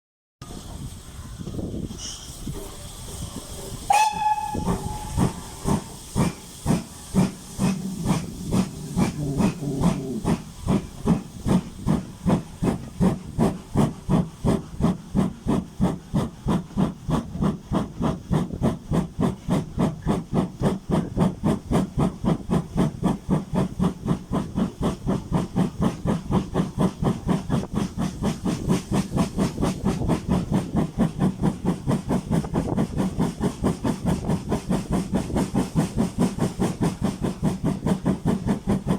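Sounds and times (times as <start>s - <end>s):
steam hissing: 0.4s - 38.9s
steam locomotive chuffing: 0.4s - 38.9s.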